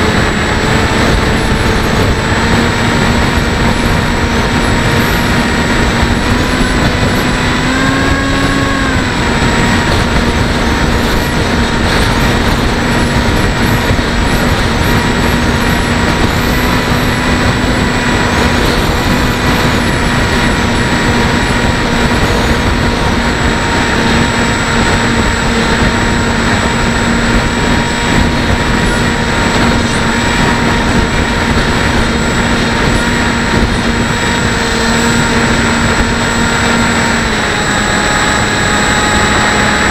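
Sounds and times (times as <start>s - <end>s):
electric motor and propeller whine: 0.0s - 39.9s
wind rush: 0.0s - 39.9s.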